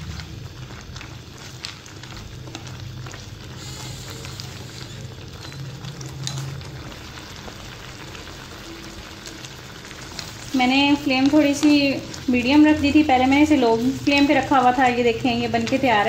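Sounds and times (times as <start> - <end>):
thick sauce bubbling and popping: 0.0 - 16.0.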